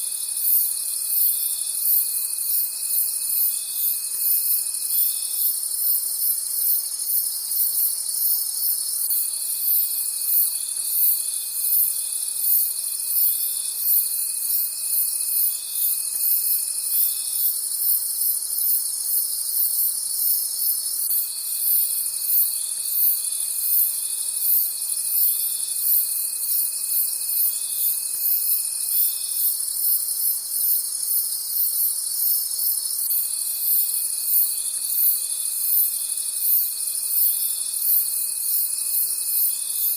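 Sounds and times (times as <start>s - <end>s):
crickets chirping: 0.0s - 39.9s
high insect trills: 0.0s - 39.9s
lower insect trill: 0.0s - 39.9s.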